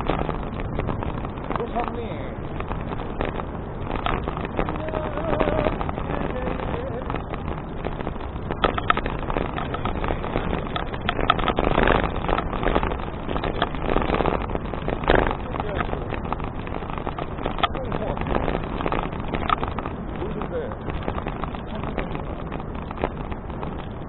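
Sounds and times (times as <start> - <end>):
bicycle tyre rumble: 0.0 - 24.0
bike clicks and rattles: 0.0 - 24.0
wind buffeting on microphone: 0.0 - 24.0.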